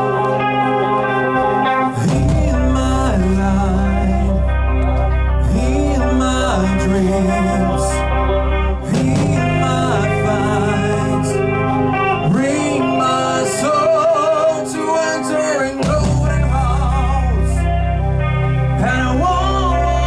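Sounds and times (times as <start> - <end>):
bass: 0.0 - 20.0
guitar: 0.0 - 20.0
person singing with vibrato: 0.0 - 20.0.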